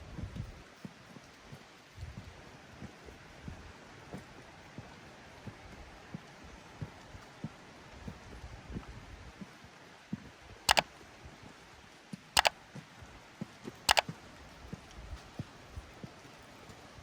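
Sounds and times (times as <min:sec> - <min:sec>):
light rain: 0:00.0 - 0:17.0.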